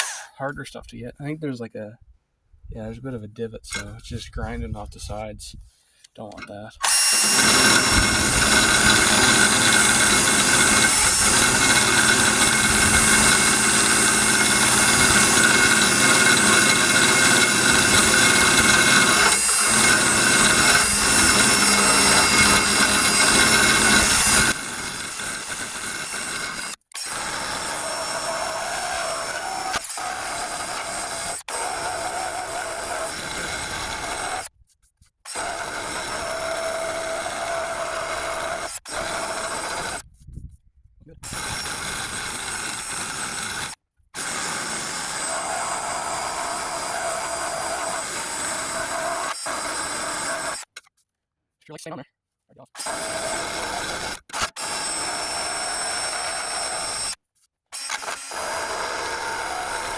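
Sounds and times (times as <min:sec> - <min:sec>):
power drill grinding paint off metal: 0:00.0 - 0:00.4, 0:06.8 - 0:34.5, 0:35.3 - 0:40.0, 0:41.2 - 0:50.9, 0:52.8 - 0:57.2, 0:57.8 - 0:59.9.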